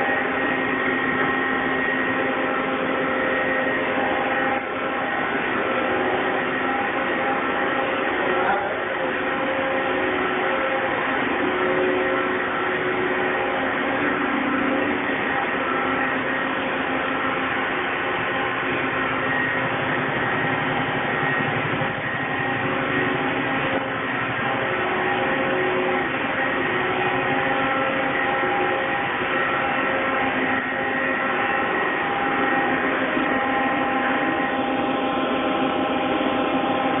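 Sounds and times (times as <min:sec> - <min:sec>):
machine shop hum: 0:00.0 - 0:37.0
machine whining tones: 0:00.0 - 0:37.0.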